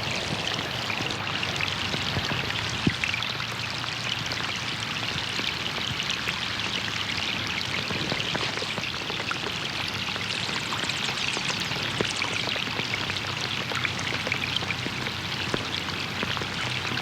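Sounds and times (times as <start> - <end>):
rain pattering on pond water: 0.0 - 17.0.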